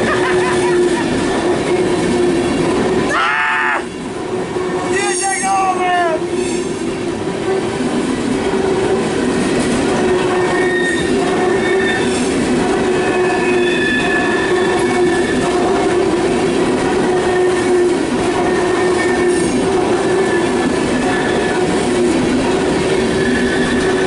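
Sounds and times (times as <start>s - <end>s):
freight train rolling past: 0.0s - 24.0s
steel wheels squealing on rails: 0.0s - 24.0s.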